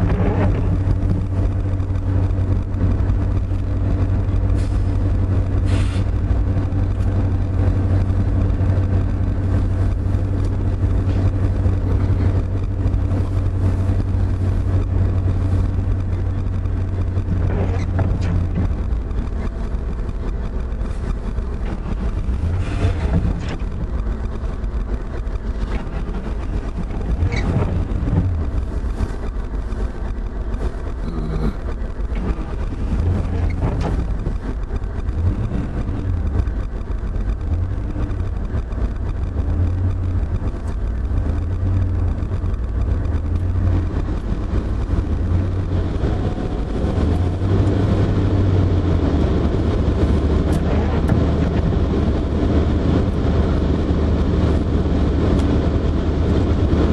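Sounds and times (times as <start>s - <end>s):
freight train rumbling past: 0.0s - 56.9s.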